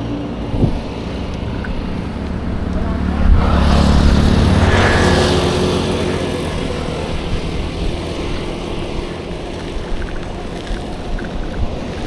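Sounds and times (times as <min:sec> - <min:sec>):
motor vehicle passing: 0:00.0 - 0:12.0
steady road noise: 0:00.0 - 0:12.0.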